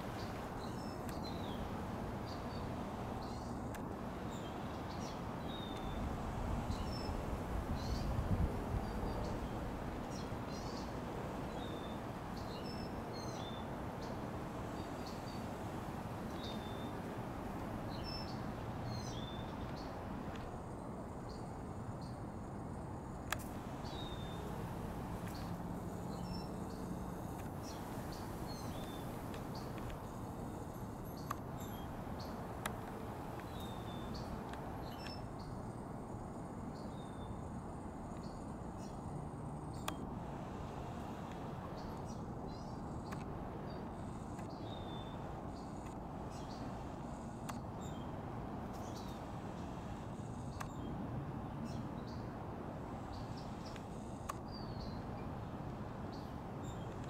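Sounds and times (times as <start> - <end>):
small birds chirping: 0.0 - 40.0, 41.2 - 51.0, 53.0 - 57.0
outdoor background noise: 0.0 - 57.0.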